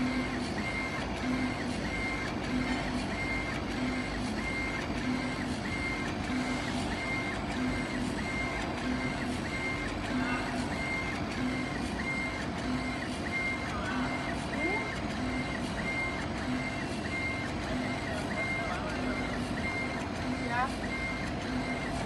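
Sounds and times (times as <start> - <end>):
laser head stepper motors whining: 0.0 - 22.0.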